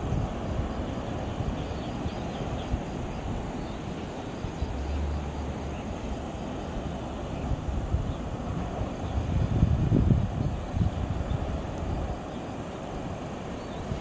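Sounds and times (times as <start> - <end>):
sea waves rushing: 0.0 - 14.0
wind rumbling on microphone: 0.0 - 14.0.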